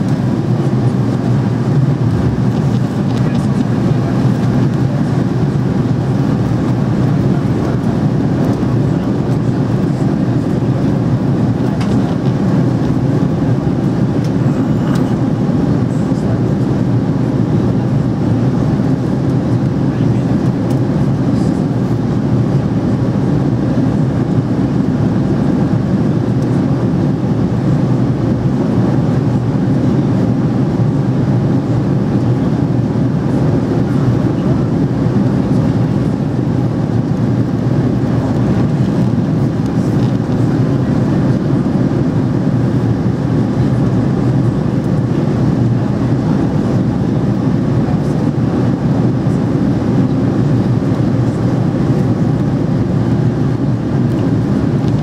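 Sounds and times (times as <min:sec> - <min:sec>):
aircraft cabin engine drone: 0:00.0 - 0:55.0.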